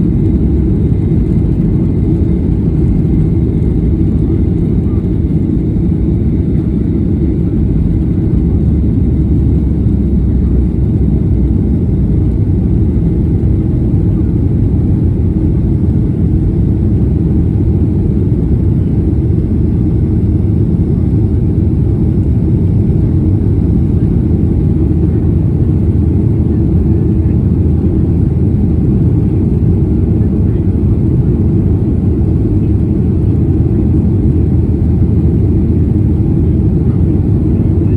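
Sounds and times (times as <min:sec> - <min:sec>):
jet engine rumble: 0:00.0 - 0:37.9.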